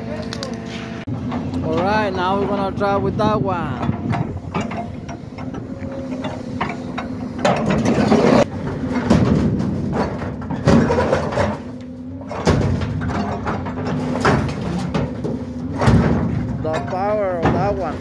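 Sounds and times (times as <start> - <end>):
excavator diesel engine running: 0.0 - 18.0
steel clanking and scraping: 0.7 - 18.0.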